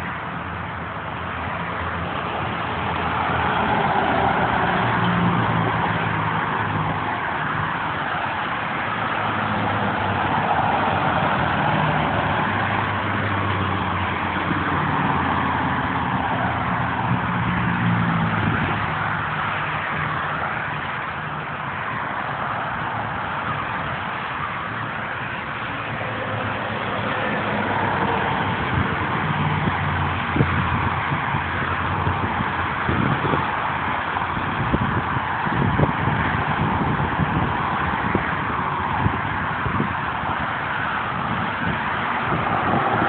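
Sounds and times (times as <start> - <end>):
freeway traffic rushing by: 0.0 - 43.0
low engine hum: 0.0 - 43.0.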